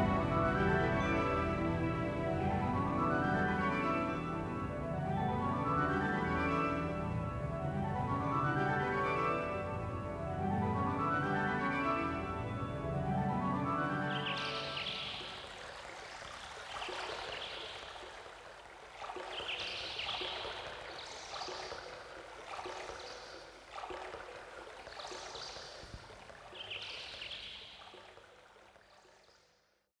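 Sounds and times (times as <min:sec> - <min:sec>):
faint soft music: 0:00.0 - 0:27.2
running water: 0:00.0 - 0:29.6.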